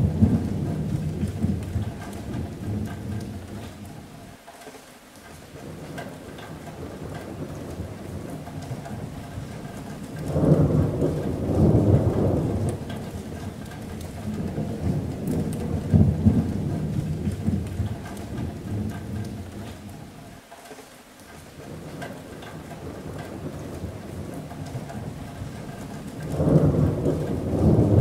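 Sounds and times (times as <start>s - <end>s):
thunder rumbling: 0.0s - 4.1s, 5.6s - 20.2s, 21.6s - 28.0s
rain on a metal roof: 0.0s - 28.0s.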